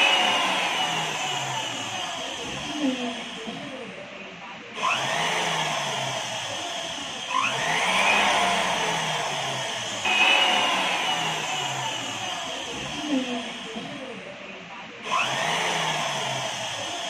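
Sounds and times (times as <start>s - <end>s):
sewing machine motor whining: 0.0s - 4.1s, 4.8s - 14.3s, 15.0s - 17.0s.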